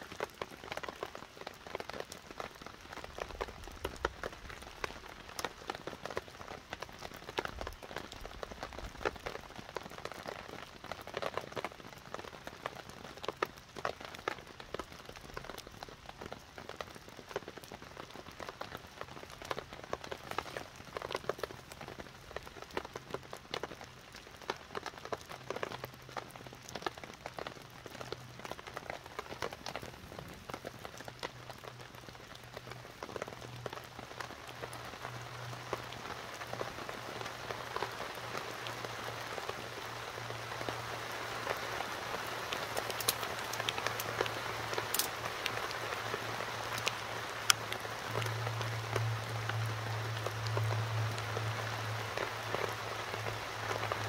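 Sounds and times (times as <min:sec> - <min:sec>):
rain on a tarp: 0:00.0 - 0:54.0.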